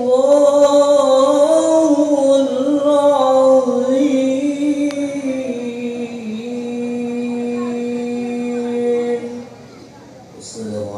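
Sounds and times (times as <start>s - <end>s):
man chanting through microphone: 0.0s - 9.5s, 10.4s - 10.9s.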